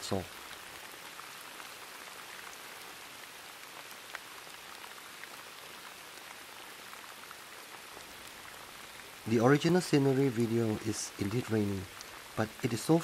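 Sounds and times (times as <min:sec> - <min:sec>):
rain drop ticks: 0:00.0 - 0:13.0
steady rain hiss: 0:00.0 - 0:13.0.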